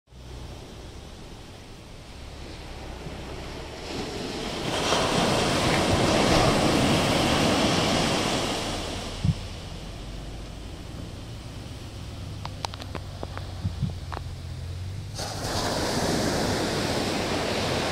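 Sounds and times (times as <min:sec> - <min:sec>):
wind rumbling on microphone: 0:00.1 - 0:17.9
ocean waves breaking on beach: 0:00.2 - 0:17.9.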